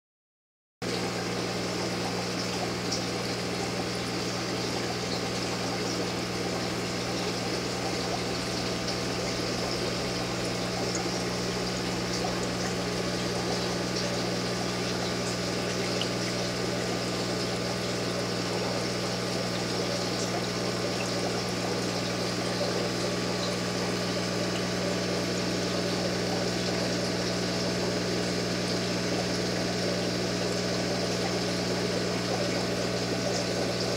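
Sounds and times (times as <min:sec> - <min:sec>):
aquarium pump humming: 0:00.8 - 0:33.9.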